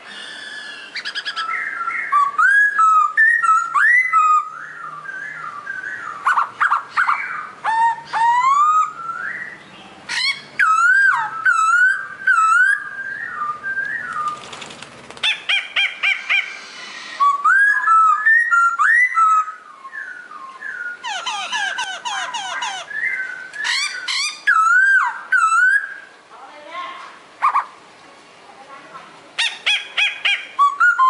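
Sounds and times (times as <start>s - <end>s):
songbird singing whistled phrases: 0.1s - 14.5s, 15.2s - 26.1s, 29.4s - 31.0s.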